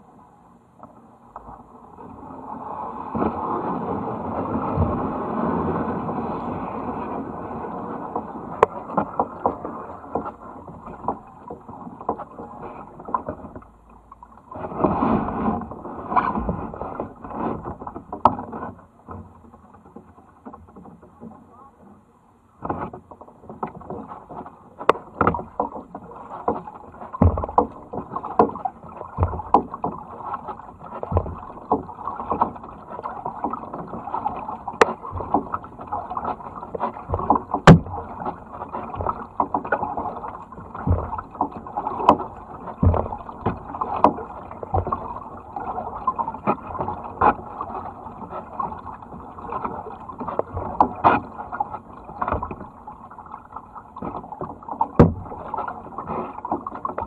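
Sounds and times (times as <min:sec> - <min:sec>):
paddle strokes splashing: 0:00.0 - 0:57.0
water sloshing along hull: 0:00.0 - 0:57.0.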